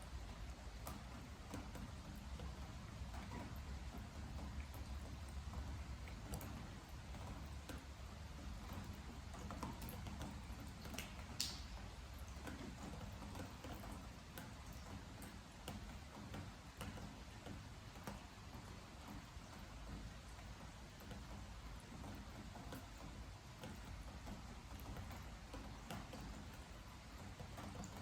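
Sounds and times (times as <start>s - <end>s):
faint rain patter: 0.0s - 28.0s
water drops ticking on wooden deck: 0.0s - 28.0s.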